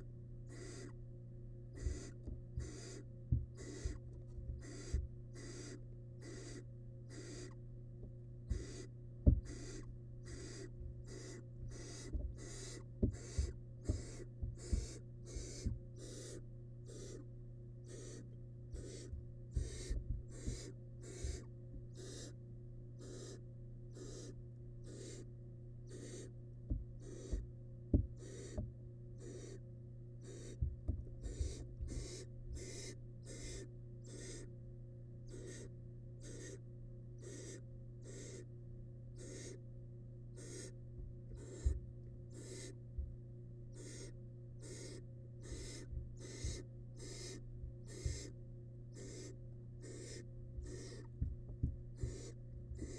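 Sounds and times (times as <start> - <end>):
owl chicks begging hisses: 0.0 - 1.0, 1.7 - 4.0, 4.6 - 7.6, 8.5 - 22.4, 23.0 - 26.3, 27.0 - 27.4, 28.2 - 28.6, 29.2 - 29.6, 30.2 - 30.6, 31.2 - 34.5, 35.3 - 36.6, 37.2 - 38.5, 39.1 - 39.6, 40.3 - 42.8, 43.7 - 51.1, 52.0 - 52.9
steady low hum: 0.0 - 52.9.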